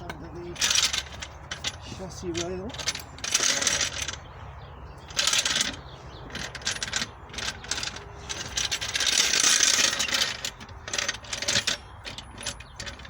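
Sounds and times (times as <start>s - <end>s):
metal jack scraping on ground: 0.0s - 4.3s, 5.1s - 13.0s.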